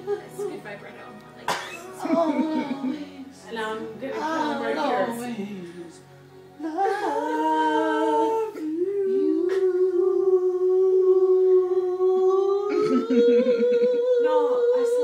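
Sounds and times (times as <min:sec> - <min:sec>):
man singing unaccompanied: 0:02.0 - 0:15.0.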